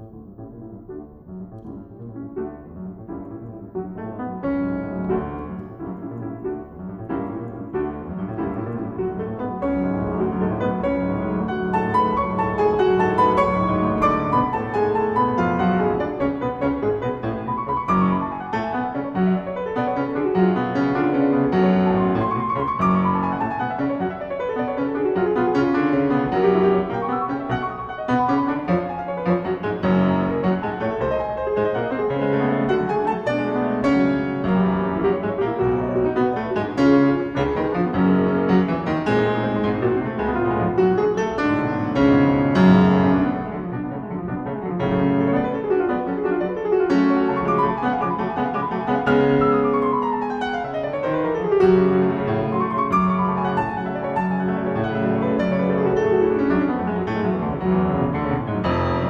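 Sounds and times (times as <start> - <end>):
classical piano playing: 0.0 - 59.0.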